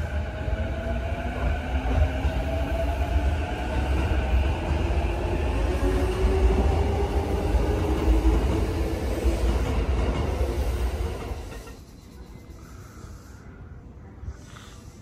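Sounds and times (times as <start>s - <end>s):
train wheels rumbling on rail: 0.0s - 13.4s.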